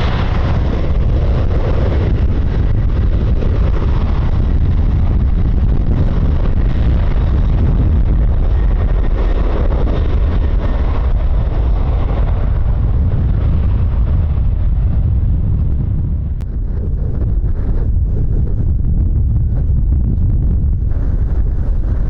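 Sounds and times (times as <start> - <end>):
jet engine roar: 0.0 - 22.0
wind buffeting microphone: 0.0 - 22.0.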